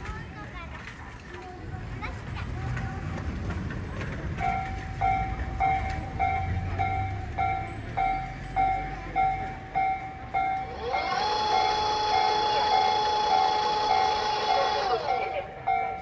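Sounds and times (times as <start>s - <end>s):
level crossing warning bell: 2.1s - 16.0s.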